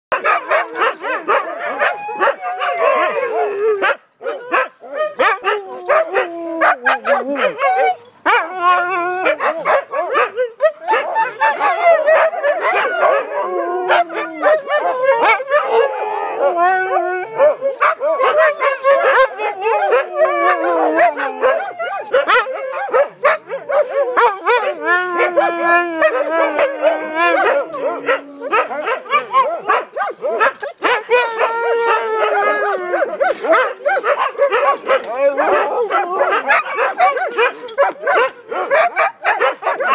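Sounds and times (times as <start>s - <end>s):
dogs howling barking and yipping: 0.1s - 39.9s.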